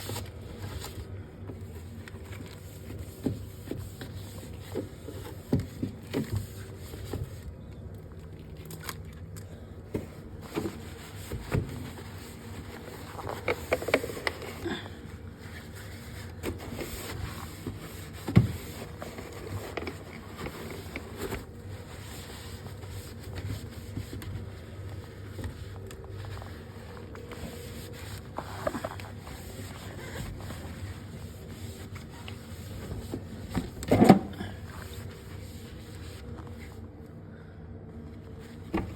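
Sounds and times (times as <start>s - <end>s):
items being handled: 0.0s - 36.9s.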